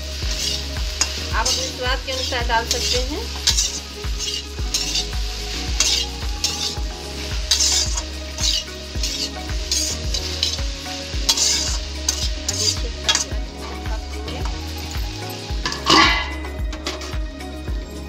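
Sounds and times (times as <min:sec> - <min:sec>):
okra sizzling in oil: 0:00.0 - 0:18.0
metal ladle scraping metal pan: 0:00.3 - 0:13.3, 0:15.7 - 0:17.2.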